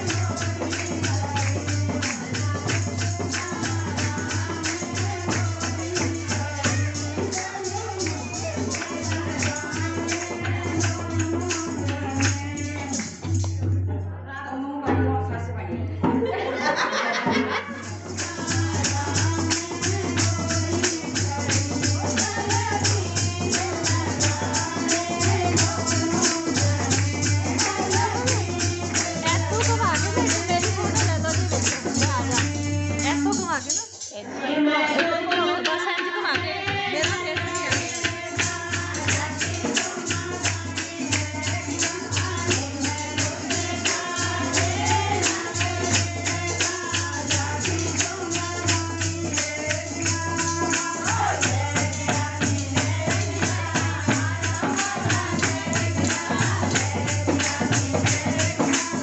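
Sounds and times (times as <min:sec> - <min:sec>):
steady drum beat: 0:00.0 - 0:13.9, 0:16.1 - 0:33.9, 0:35.0 - 0:59.0
jingling hand percussion: 0:00.0 - 0:59.0
women singing through loudspeaker: 0:00.0 - 0:59.0.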